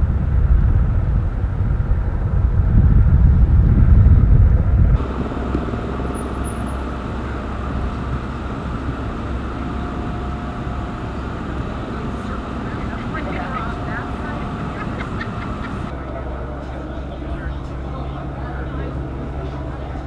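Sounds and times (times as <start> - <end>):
loud low engine rumble: 0.0 - 20.0
steady background hum: 0.0 - 20.0.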